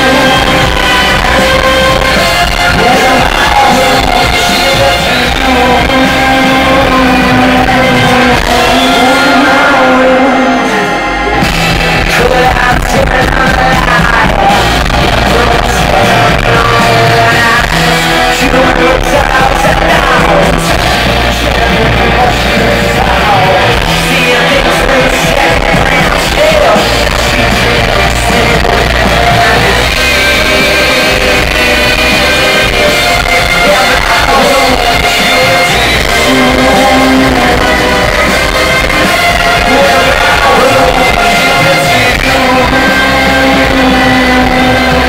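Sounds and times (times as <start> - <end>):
crowd noise: 0.0 - 45.0
live rock band playing: 0.0 - 45.0.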